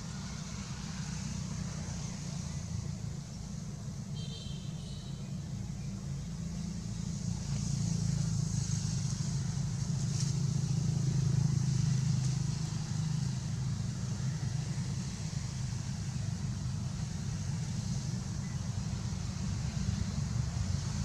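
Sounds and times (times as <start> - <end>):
vehicle engine passing: 0.0 - 4.0, 5.8 - 21.0.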